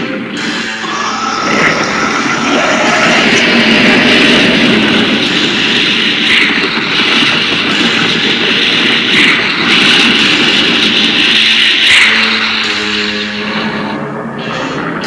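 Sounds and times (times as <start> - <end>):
jet-like rushing roar: 0.0 - 15.0.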